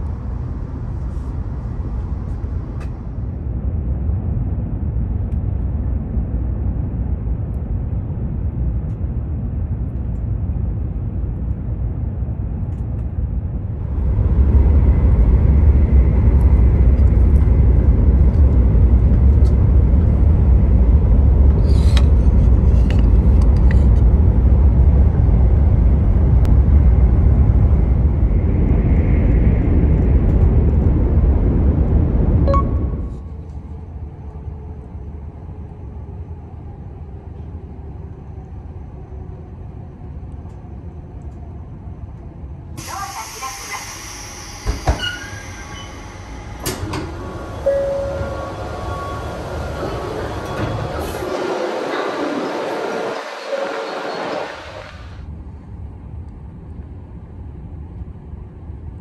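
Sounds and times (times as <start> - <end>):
train cabin rumble and rush: 0.0 - 59.0.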